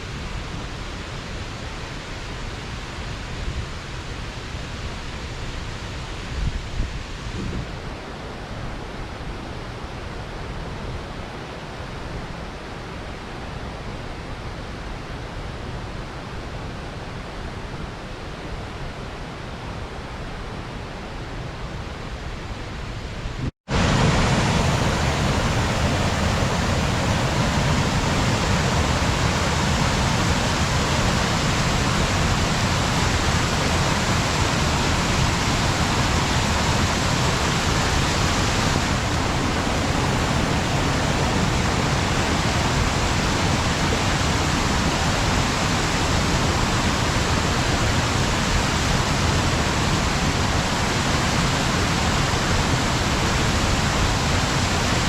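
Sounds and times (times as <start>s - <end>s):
water rushing over a dam: 0.0s - 55.0s.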